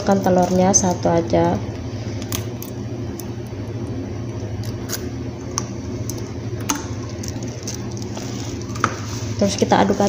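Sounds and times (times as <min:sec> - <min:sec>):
low multi-tone hum: 0:00.0 - 0:10.0.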